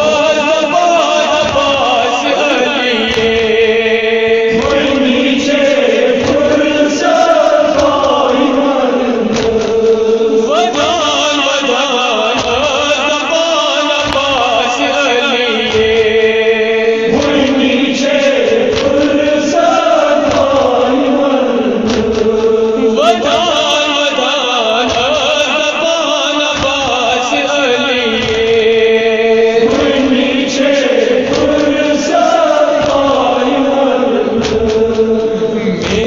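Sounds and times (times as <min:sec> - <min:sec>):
voices chanting a lament: 0:00.0 - 0:36.0.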